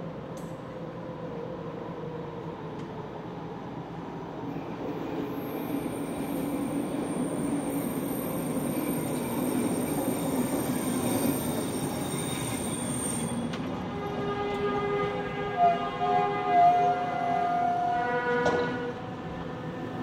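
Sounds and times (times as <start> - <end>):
train rumbling along track: 0.0 - 20.0.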